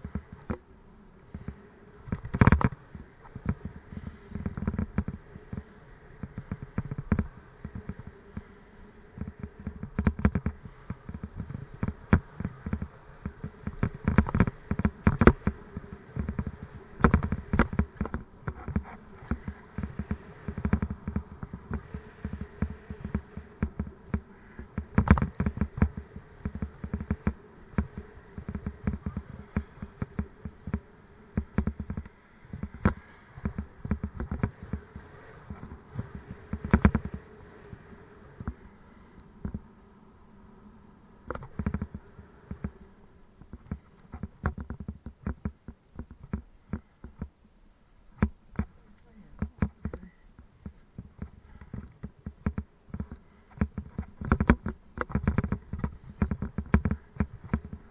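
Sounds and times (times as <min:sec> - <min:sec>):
faint steady buzz: 0:00.0 - 0:57.9
bicycle rattling and knocking: 0:01.3 - 0:38.6, 0:41.3 - 0:47.4, 0:48.2 - 0:57.9.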